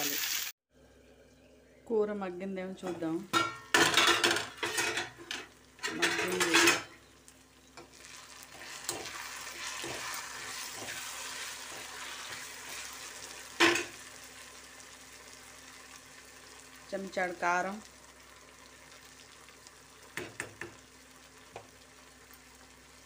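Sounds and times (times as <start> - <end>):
curry sizzling in oil: 0.0 - 0.6, 3.3 - 23.0.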